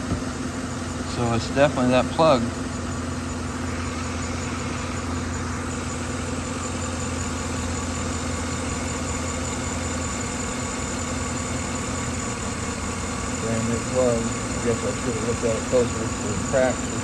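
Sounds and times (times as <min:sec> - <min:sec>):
misfiring engine idling: 0:00.0 - 0:17.0.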